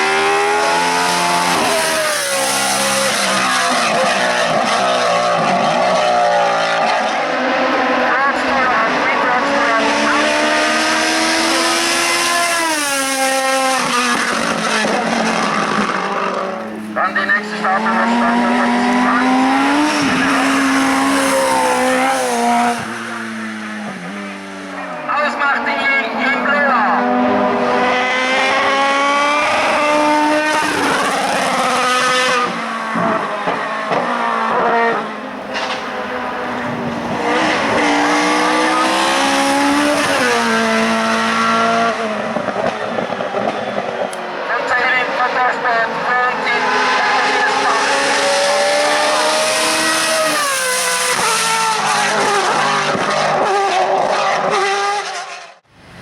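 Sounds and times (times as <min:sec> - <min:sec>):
race car engine accelerating: 0:00.0 - 0:55.9.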